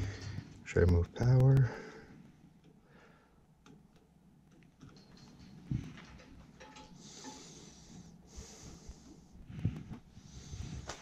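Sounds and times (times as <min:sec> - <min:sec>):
clicks and rustles of wires: 0:00.0 - 0:02.8, 0:03.6 - 0:08.1, 0:08.9 - 0:11.0.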